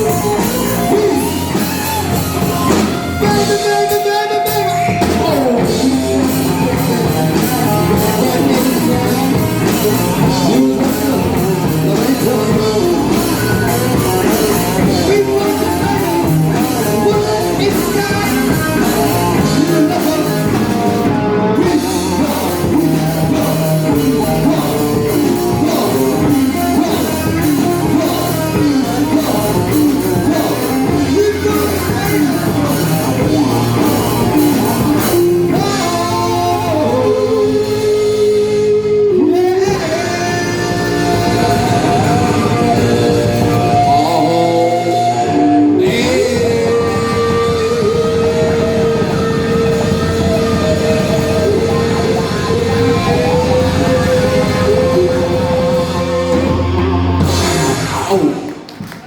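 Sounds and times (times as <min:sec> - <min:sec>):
rock music with singer: 0:00.0 - 0:59.0.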